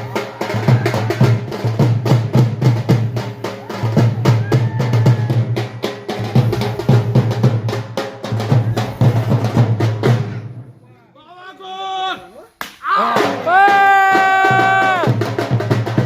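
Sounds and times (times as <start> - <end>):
music with fast drum beat: 0.0 - 10.6, 13.0 - 16.0.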